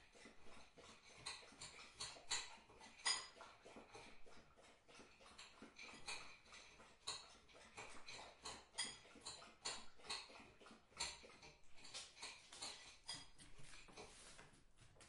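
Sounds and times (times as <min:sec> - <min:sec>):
dog clicking and tapping: 0:00.1 - 0:15.0.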